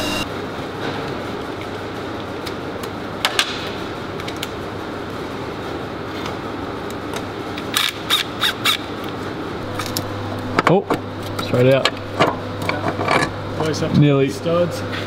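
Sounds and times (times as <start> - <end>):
workshop background noise: 0.0 - 15.0.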